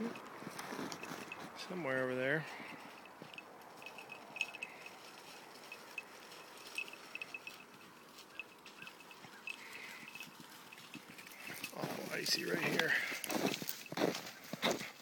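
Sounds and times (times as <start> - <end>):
steps crunching on icy snow: 0.0 - 15.0.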